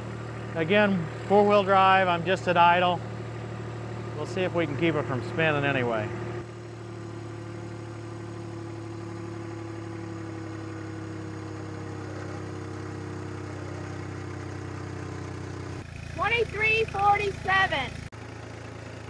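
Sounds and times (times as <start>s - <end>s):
diesel tractor engine under load: 0.0s - 19.0s.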